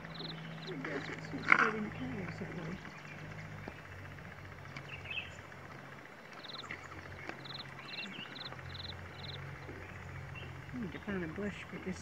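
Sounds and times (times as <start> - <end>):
low steady hum: 0.0 - 12.0
small bird calling: 0.0 - 12.0.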